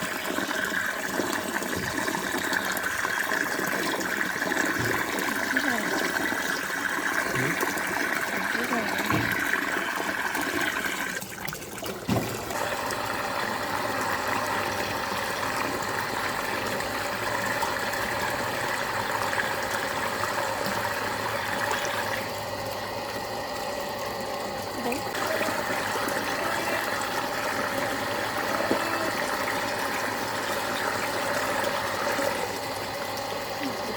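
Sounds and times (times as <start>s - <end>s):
flowing water rushing: 0.0s - 33.9s
small water pump running: 0.0s - 33.9s.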